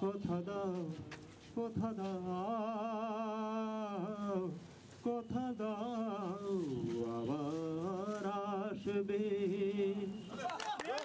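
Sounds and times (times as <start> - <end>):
man singing unaccompanied: 0.0 - 10.4.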